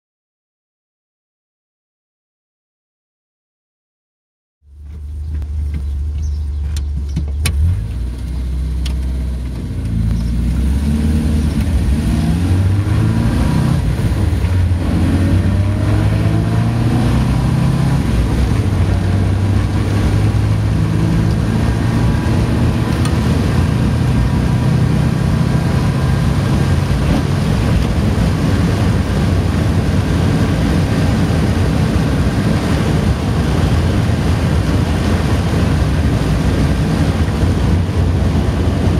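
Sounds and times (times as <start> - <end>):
road and wind noise: 4.6 - 38.9
car engine pulling hard: 4.7 - 38.9.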